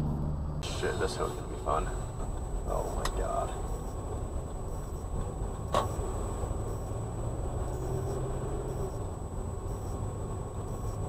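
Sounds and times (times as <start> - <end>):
car driving on snow: 0.0 - 11.0.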